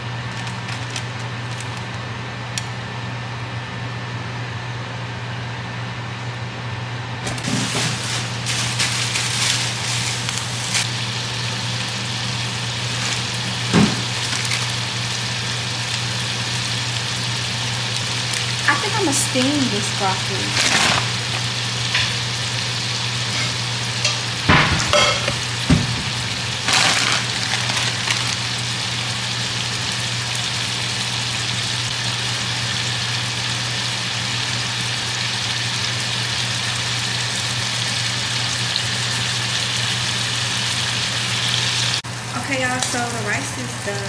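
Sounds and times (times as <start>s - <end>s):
shrimp sizzling in frying pan: 7.4s - 44.0s.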